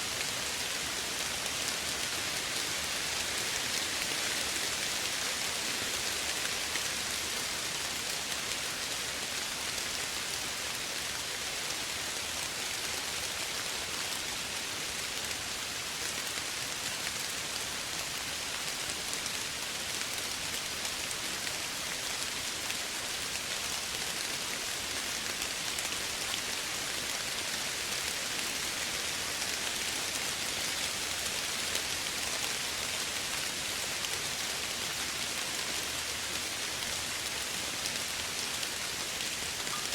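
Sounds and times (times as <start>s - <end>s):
soft steady rainfall: 0.0s - 39.9s.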